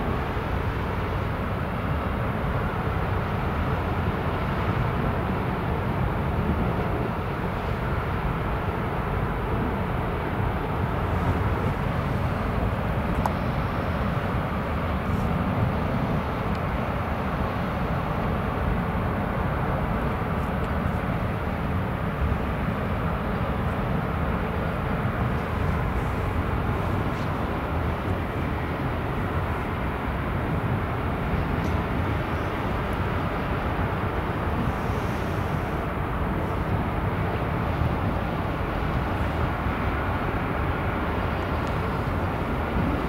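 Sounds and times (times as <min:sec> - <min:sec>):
noisy hiss: 0:00.0 - 0:43.0.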